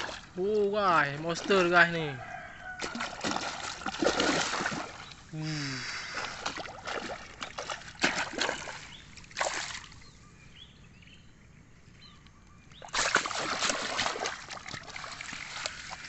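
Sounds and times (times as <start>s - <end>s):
fish splashing in water: 0.0s - 10.0s, 12.8s - 16.0s.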